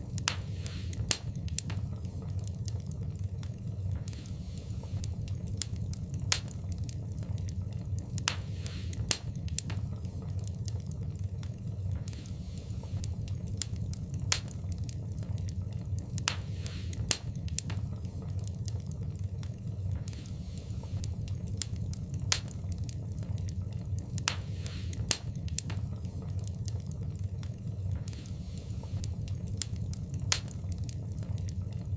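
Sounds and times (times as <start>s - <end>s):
fire flames rumbling: 0.0s - 31.9s
fire hissing: 0.0s - 31.9s
wood fire popping: 0.0s - 31.9s.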